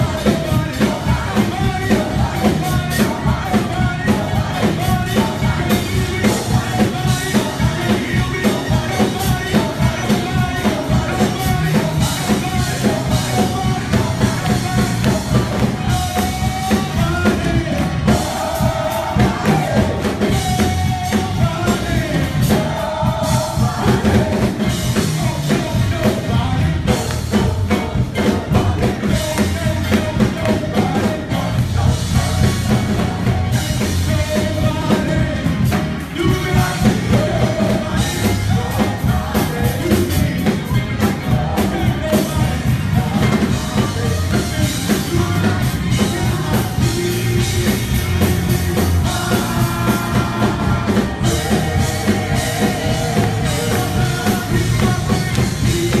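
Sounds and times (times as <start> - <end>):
drum kit: 0.0 - 56.0
live praise music with singing: 0.0 - 56.0.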